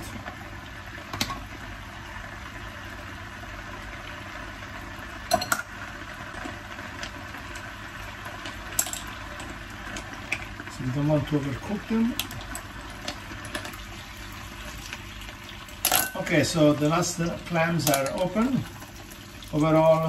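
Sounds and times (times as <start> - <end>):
clams sizzling in a pan: 0.0 - 20.0.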